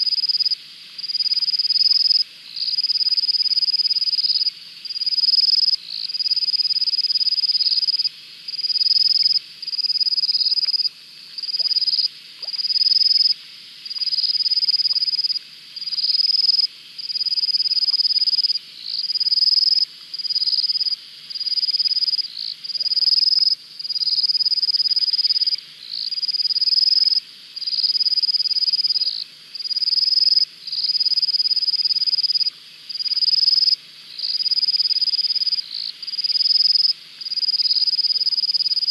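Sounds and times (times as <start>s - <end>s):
faint continuous chirring: 0.0s - 38.9s.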